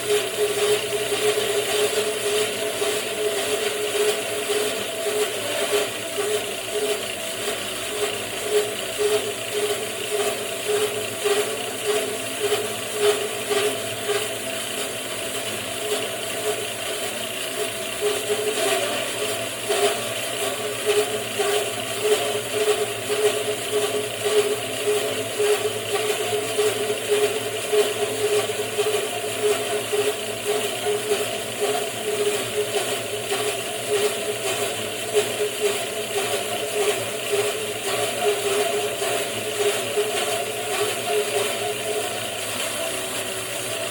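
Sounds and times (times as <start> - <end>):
bandsaw mill running: 0.0 - 43.9.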